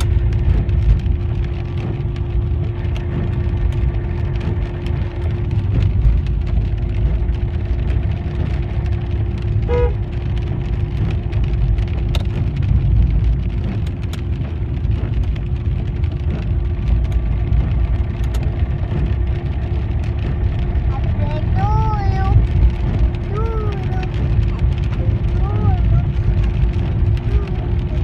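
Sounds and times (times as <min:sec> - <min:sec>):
car engine and tyres rumbling: 0:00.0 - 0:28.0
raindrops hitting car: 0:00.0 - 0:28.0.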